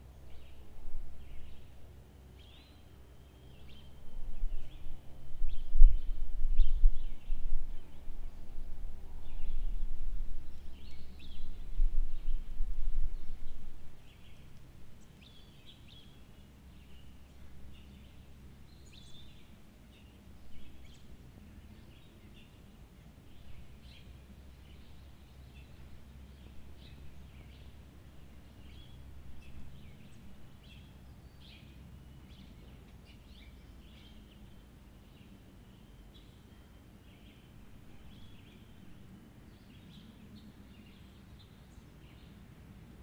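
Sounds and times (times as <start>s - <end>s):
faint low rumble: 0.0s - 43.0s.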